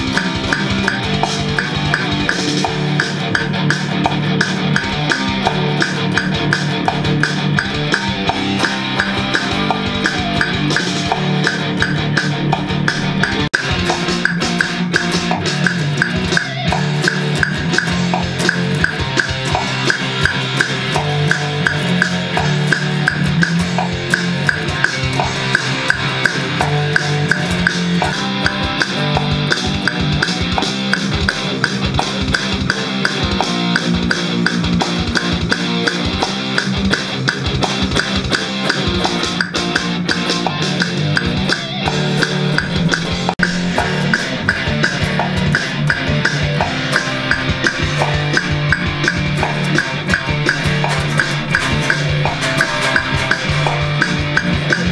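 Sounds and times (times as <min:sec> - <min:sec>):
drum kit: 0:00.0 - 0:54.9
guitar playing: 0:00.0 - 0:54.9.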